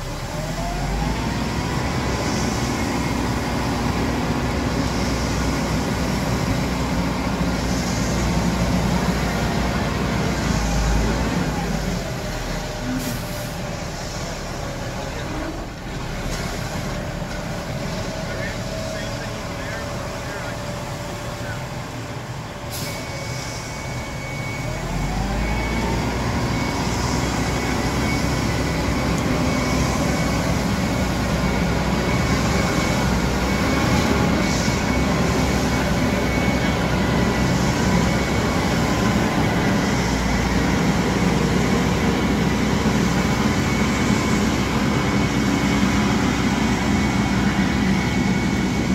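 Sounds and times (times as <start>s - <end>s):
truck diesel engine revving: 0.0s - 48.9s.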